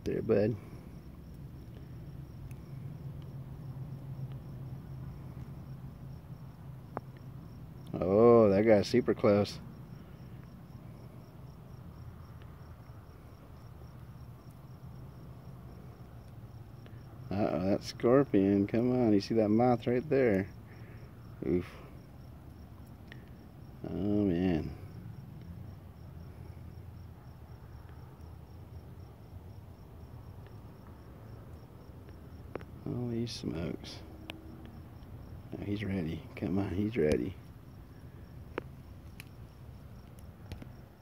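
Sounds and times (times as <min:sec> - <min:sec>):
cricket chirping: 0:00.0 - 0:41.0
low background rumble: 0:00.0 - 0:41.0
low steady hum: 0:00.0 - 0:41.0.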